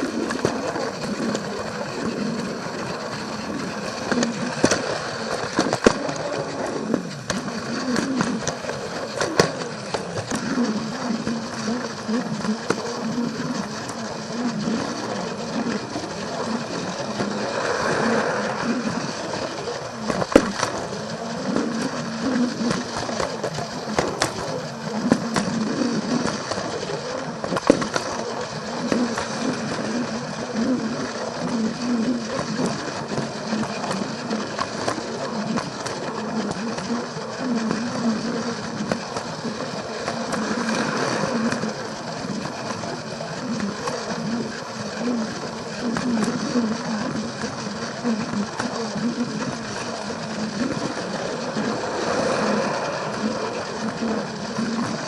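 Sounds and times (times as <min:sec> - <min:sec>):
toy train motor whirring: 0:00.0 - 0:55.0
wheels clicking over rail joints: 0:00.0 - 0:55.0.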